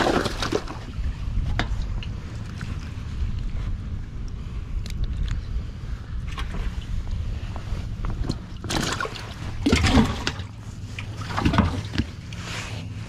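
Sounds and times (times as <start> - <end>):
water splashing and sloshing: 0.0 - 3.8, 6.0 - 13.0
boat motor humming: 0.0 - 13.0.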